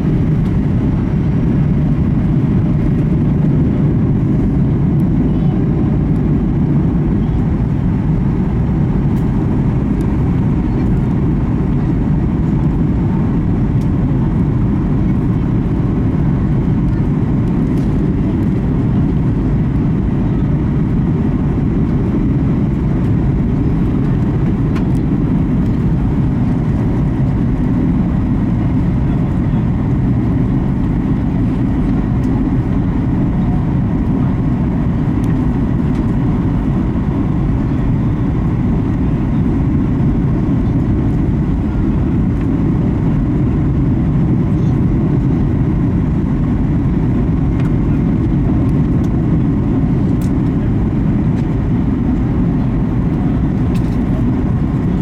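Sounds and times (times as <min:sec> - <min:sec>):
jet engines roaring in cabin: 0:00.0 - 0:55.0.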